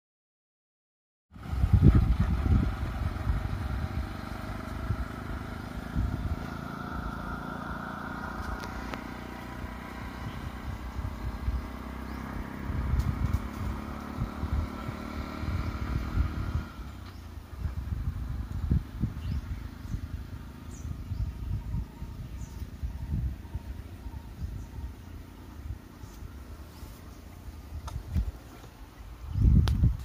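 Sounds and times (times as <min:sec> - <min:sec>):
vehicle engine rumble: 0:01.3 - 0:30.0.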